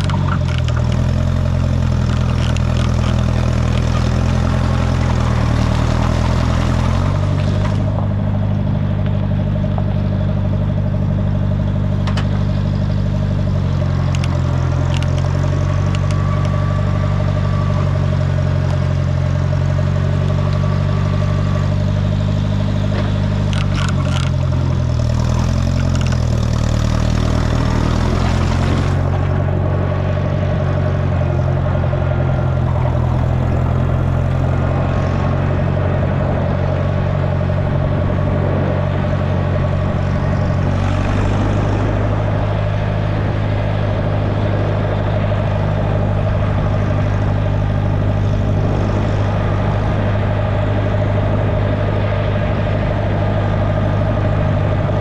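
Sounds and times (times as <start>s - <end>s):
road grader engine running: 0.0s - 55.0s.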